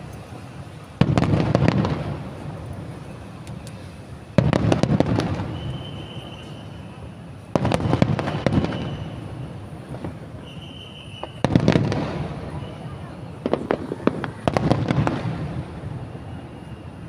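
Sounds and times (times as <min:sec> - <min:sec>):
fireworks crackling: 0:00.0 - 0:17.0
fireworks booming: 0:00.7 - 0:17.0.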